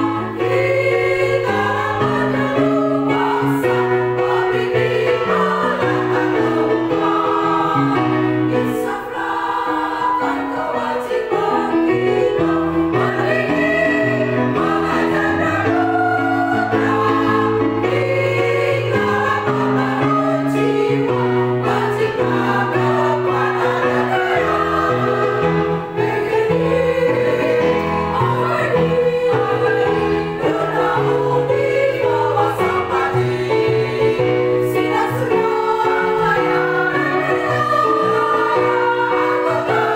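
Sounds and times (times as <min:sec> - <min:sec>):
choir singing held notes: 0:00.0 - 0:39.9.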